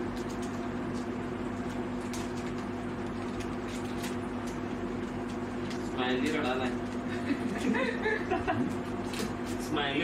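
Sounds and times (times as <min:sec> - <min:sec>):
electrical appliance hum: 0:00.0 - 0:10.0.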